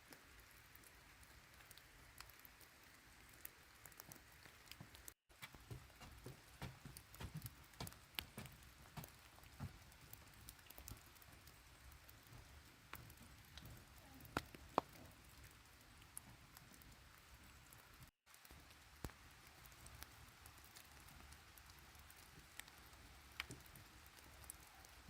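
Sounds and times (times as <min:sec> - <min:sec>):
raindrops tapping on surface: 0:03.3 - 0:25.0.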